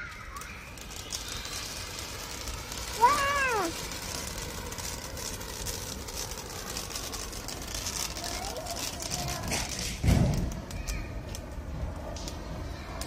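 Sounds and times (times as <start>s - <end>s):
firework fountain hissing crackle: 0.0s - 13.0s.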